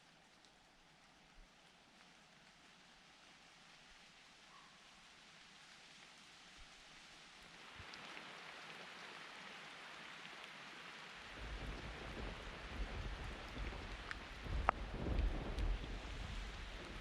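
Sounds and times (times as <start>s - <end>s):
rain falling in forest: 0.0s - 17.0s.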